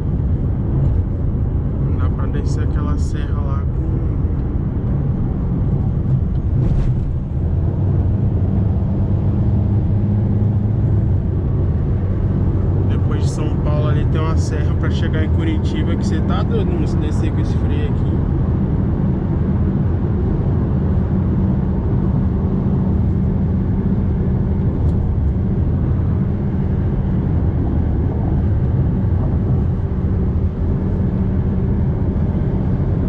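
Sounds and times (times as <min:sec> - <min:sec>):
diesel engine drone: 0:00.0 - 0:33.0
tyre and road noise: 0:00.0 - 0:33.0.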